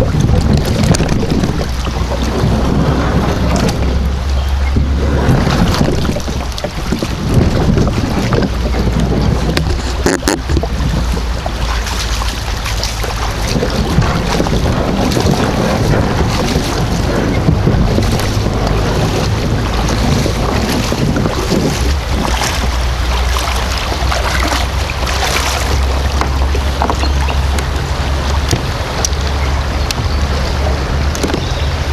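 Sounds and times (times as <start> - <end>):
creek water rushing: 0.0 - 31.9
water splashing: 0.0 - 31.9
wind buffeting microphone: 0.0 - 31.9.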